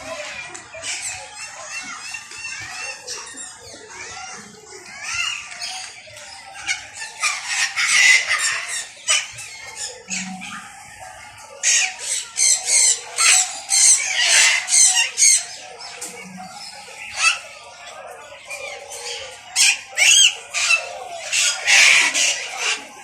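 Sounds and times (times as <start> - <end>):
birds squawking: 0.0 - 23.0.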